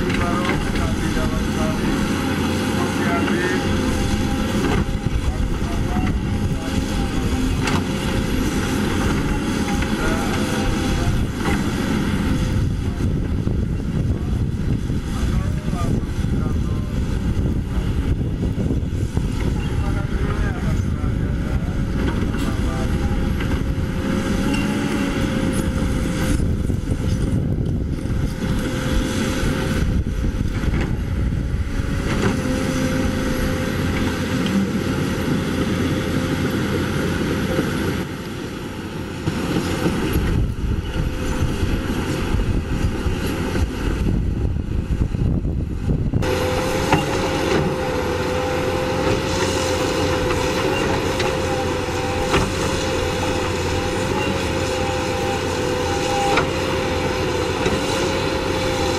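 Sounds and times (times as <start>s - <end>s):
excavator diesel engine under load: 0.0s - 58.9s.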